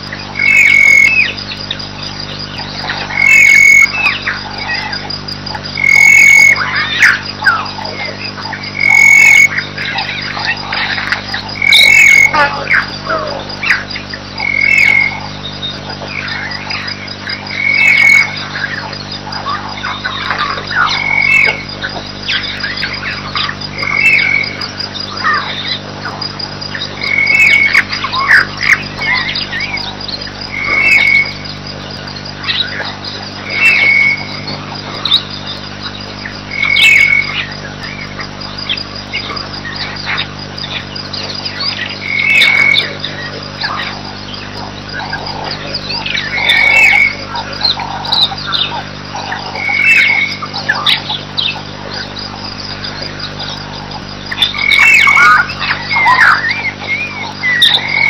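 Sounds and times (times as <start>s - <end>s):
insects chirping: 0.0s - 58.0s
low hum: 0.0s - 58.0s
wild birds calling: 0.0s - 58.0s.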